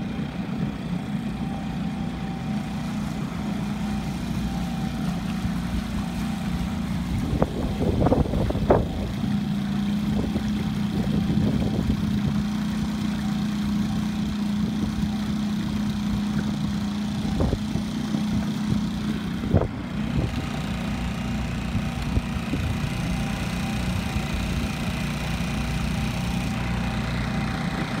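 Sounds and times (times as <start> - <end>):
boat motor running: 0.0 - 28.0.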